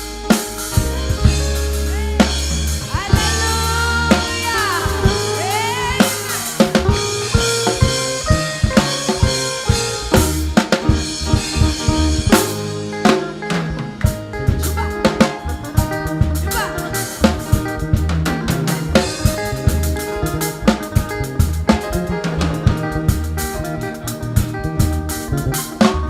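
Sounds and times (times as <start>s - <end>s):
high pitch-bending melodic line: 0.0s - 25.9s
deep bass notes: 0.0s - 26.0s
drum kit beat: 0.0s - 26.0s.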